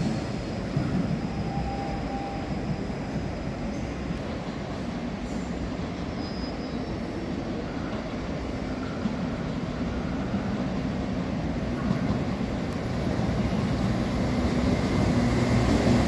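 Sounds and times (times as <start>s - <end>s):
electric train approaching: 0.0s - 16.0s.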